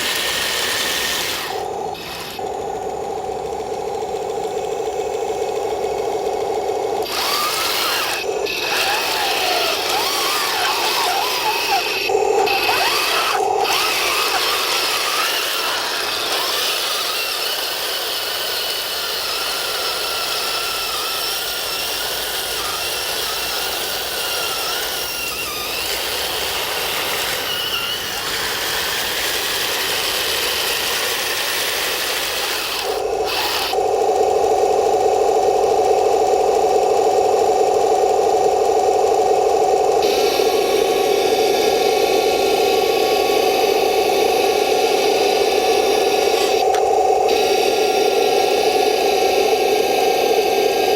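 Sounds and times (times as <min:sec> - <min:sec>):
electric motors whining: 0:00.0 - 0:50.9.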